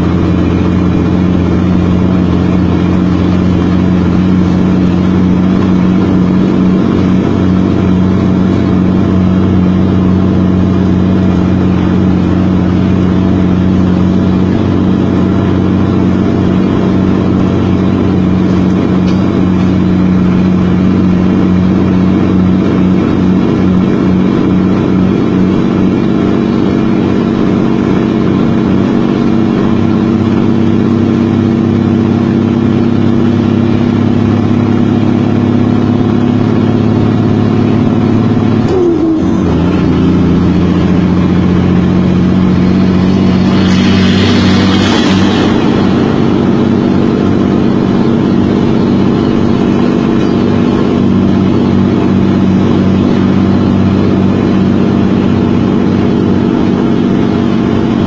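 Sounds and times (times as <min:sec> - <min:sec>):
truck diesel engine pulling: 0:00.0 - 0:58.0.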